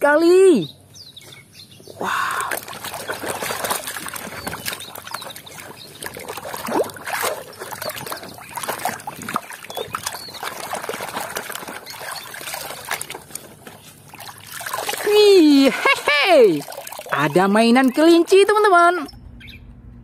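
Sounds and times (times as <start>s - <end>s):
water sloshing in plastic tub: 2.3s - 19.2s.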